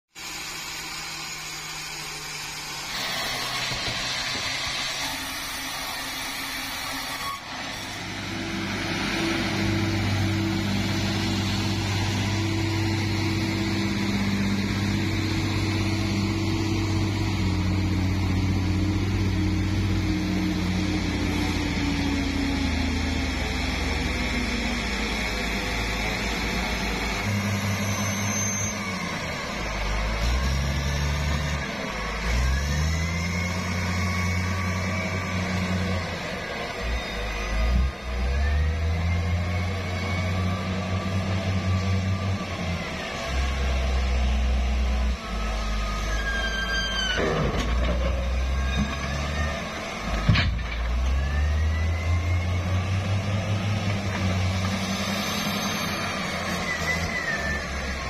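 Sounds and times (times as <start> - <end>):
engine hum: 0.1 - 58.0
sawmill machinery whir: 0.1 - 58.0.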